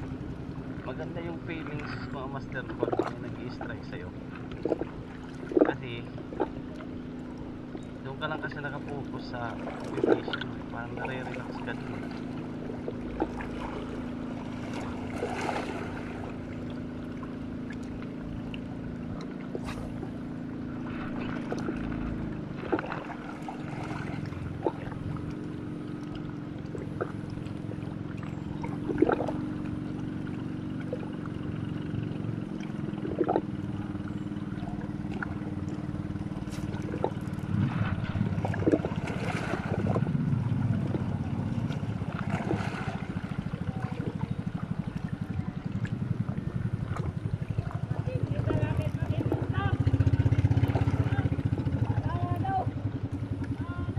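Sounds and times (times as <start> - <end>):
motorboat engine droning: 0.0 - 53.9
water washing: 0.0 - 53.9.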